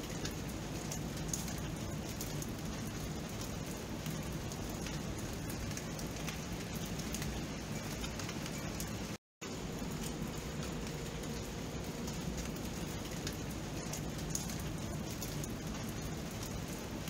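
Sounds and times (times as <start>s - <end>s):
raindrop ticks: 0.0s - 17.0s
steady rain hiss: 0.0s - 17.0s.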